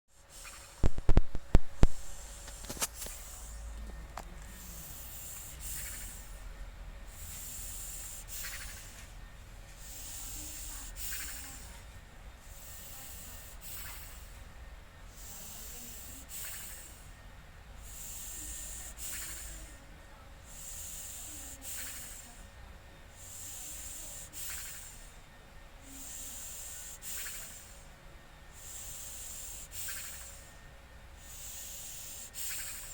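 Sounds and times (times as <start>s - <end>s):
puppy snoring: 0.2s - 17.2s, 17.8s - 25.2s, 25.8s - 32.9s.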